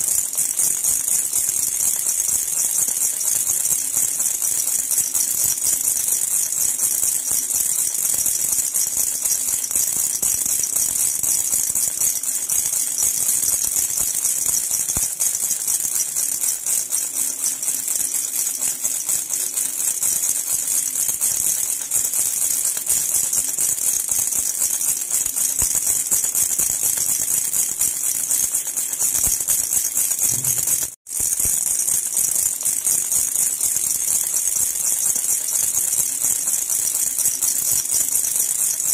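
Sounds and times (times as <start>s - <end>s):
baby rattle jingling: 0.0s - 38.9s.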